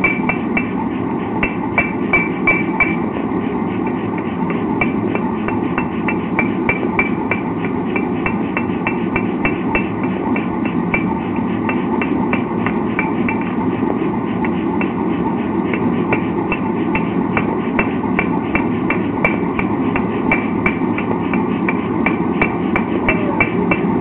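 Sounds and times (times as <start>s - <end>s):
hammer striking metal on anvil: 0.0s - 0.8s, 1.4s - 3.1s, 3.8s - 13.6s, 14.4s - 15.0s, 15.7s - 24.0s
steady background noise: 0.0s - 24.0s.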